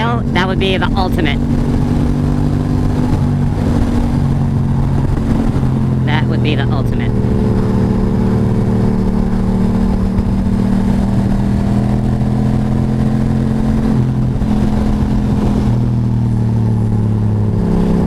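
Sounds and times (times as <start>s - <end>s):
motorcycle engine cruising: 0.0s - 18.0s
wind and road noise: 0.0s - 18.0s.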